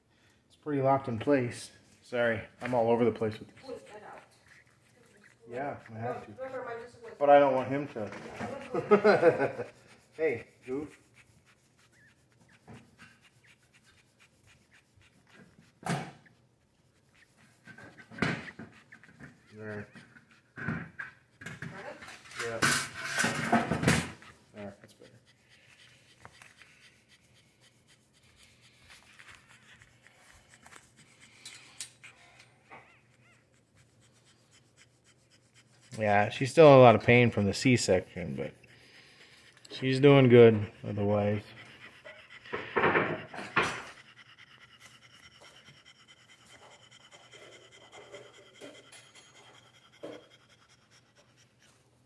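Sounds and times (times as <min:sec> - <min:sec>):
soft dog breathing: 0:00.0 - 0:52.0
dog panting: 0:00.2 - 0:52.0
puppies rustling: 0:01.0 - 0:46.8.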